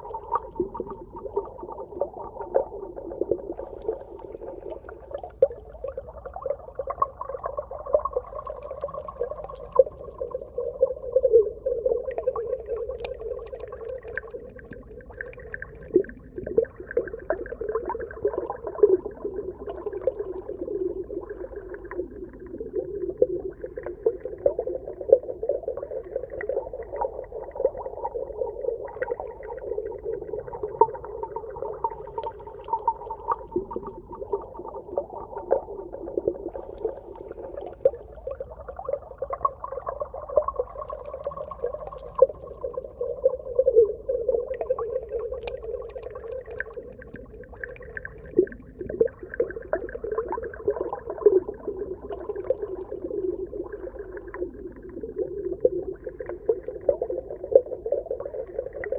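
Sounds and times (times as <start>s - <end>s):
small underwater clicks and pops: 6.8s - 10.5s, 12.1s - 27.9s, 30.4s - 38.6s, 39.2s - 58.9s.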